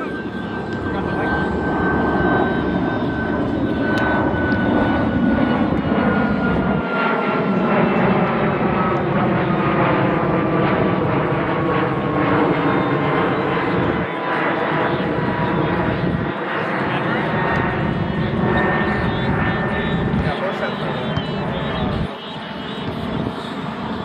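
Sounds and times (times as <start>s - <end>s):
airplane engine whine: 0.0s - 24.0s.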